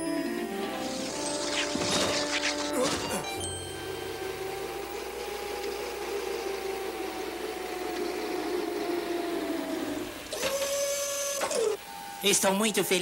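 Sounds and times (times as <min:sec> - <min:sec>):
jet engine whine: 0:00.4 - 0:11.8.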